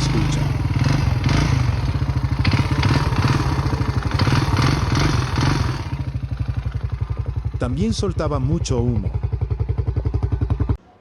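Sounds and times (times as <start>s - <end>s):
engine running with clattering knock: 0.0s - 10.8s.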